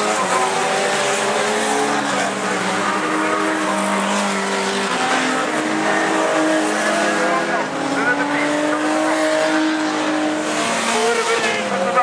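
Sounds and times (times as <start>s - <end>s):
stock car engines racing: 0.0s - 12.0s.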